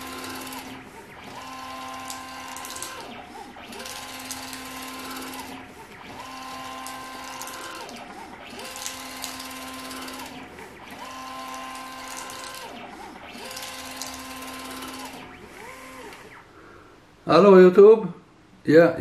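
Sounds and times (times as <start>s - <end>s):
stepper motors whining: 0.0s - 16.4s.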